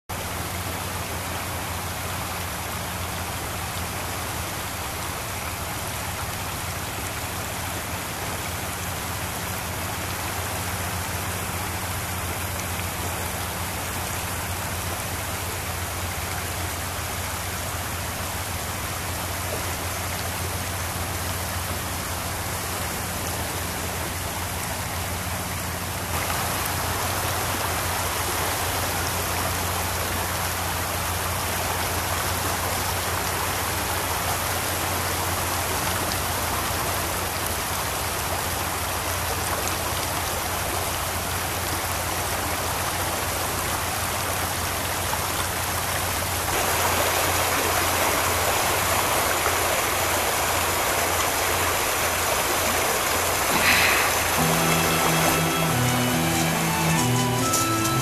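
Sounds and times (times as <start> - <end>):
stream running over pebbles: 0.1 - 56.9.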